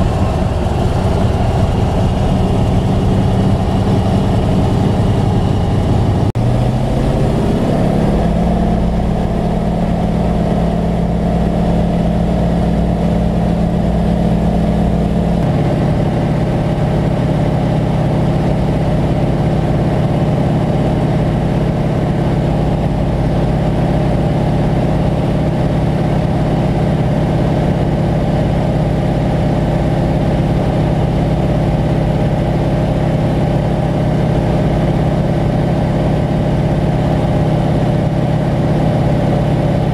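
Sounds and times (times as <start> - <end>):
plane piston engine and propeller: 0.0 - 39.9.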